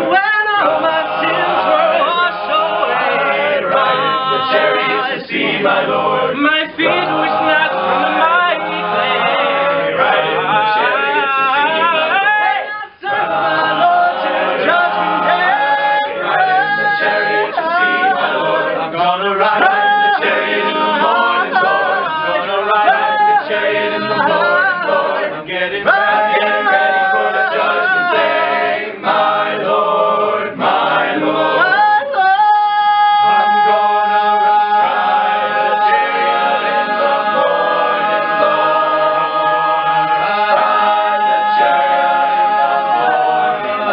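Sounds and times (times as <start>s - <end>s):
male a cappella group singing: 0.0s - 43.9s.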